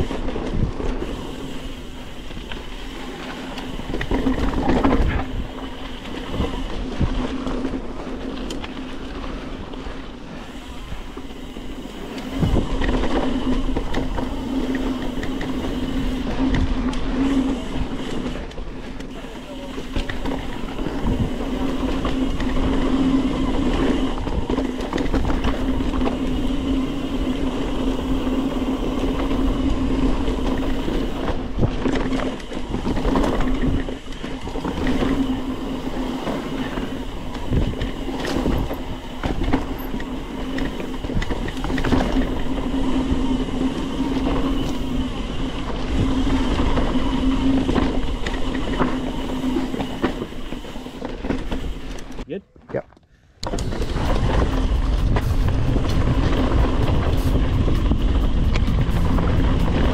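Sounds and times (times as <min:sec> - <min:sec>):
bike knocking and rattling: 0:00.0 - 0:59.9
bike tyres rolling on dirt: 0:00.0 - 0:59.9.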